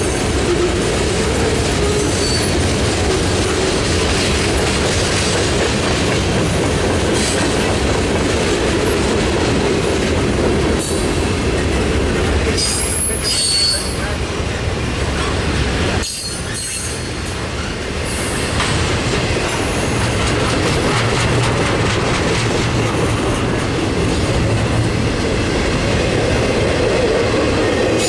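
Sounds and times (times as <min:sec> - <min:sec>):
freight train rumbling and rattling: 0:00.0 - 0:28.0.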